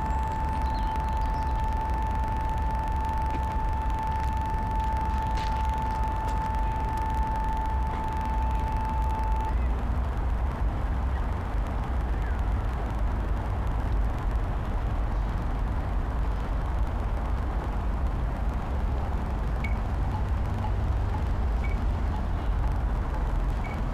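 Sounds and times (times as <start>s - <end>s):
low rumble of street traffic: 0.0s - 23.9s
steady pure tone: 0.0s - 23.9s.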